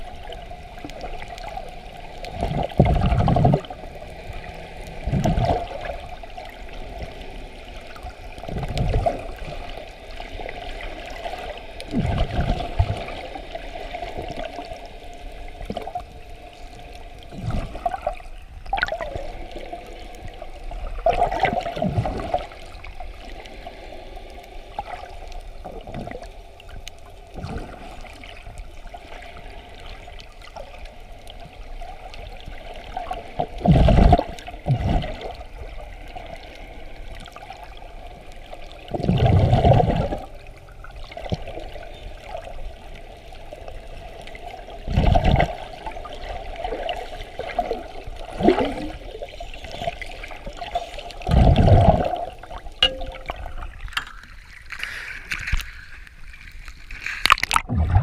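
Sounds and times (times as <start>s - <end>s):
muffled underwater water noise: 0.0s - 58.0s
whooshing surges of water and bubbles: 0.0s - 58.0s.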